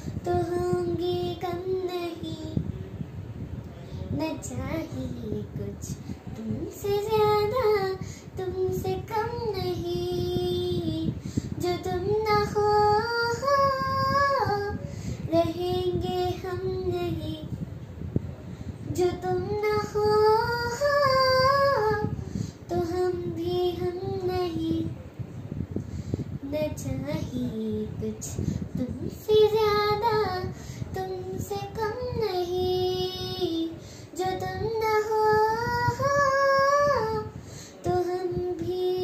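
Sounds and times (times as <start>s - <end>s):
girl singing unaccompanied: 0.0s - 25.2s, 26.0s - 39.0s.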